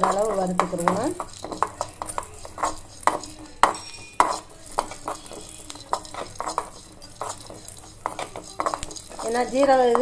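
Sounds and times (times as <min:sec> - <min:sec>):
metal spoon scraping seeds in pan: 0:00.0 - 0:10.0.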